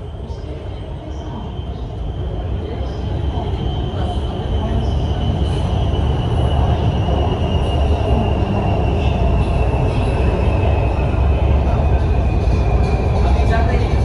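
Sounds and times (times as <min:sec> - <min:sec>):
train high whine: 0:00.0 - 0:14.0
train low rumble: 0:00.0 - 0:14.0.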